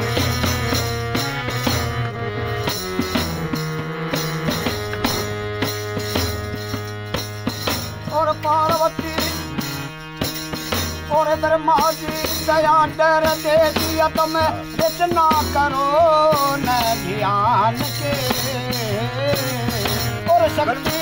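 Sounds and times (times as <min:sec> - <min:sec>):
devotional song: 0:00.0 - 0:21.0
held bass line: 0:00.0 - 0:21.0
steady percussion beat: 0:00.0 - 0:21.0
wavering lead melody: 0:00.0 - 0:21.0.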